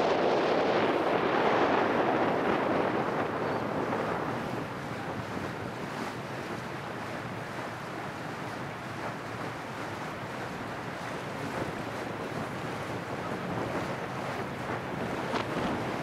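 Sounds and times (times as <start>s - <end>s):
water along boat hull: 0.0s - 16.0s
wind on microphone: 0.0s - 16.0s.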